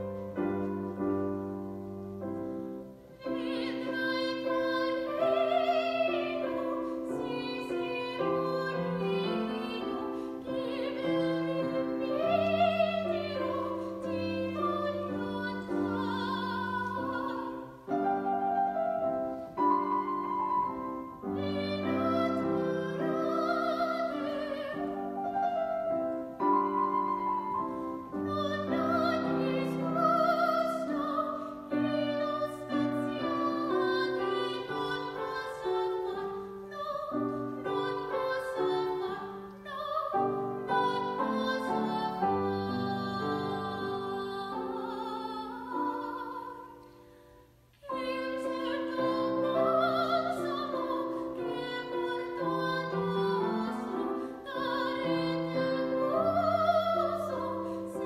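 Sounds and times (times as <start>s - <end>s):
piano accompaniment: 0.0s - 46.8s, 47.8s - 58.0s
classical singing with vibrato: 0.0s - 58.0s.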